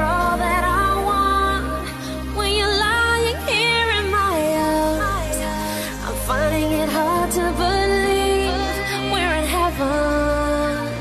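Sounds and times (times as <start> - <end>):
steady bass notes: 0.0 - 11.0.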